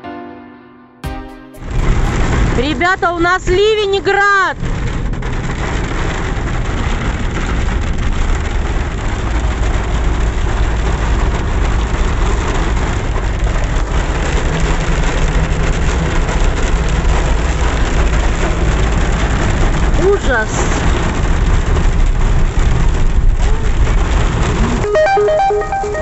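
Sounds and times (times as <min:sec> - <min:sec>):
low rumble of moving car: 0:01.6 - 0:26.0
rain and hail drumming on car roof: 0:01.6 - 0:26.0.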